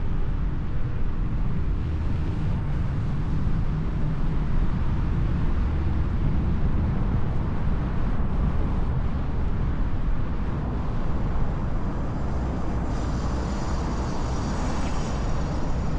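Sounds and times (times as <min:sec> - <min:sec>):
road noise: 0:00.0 - 0:15.9
wind rumble on microphone: 0:00.0 - 0:15.9.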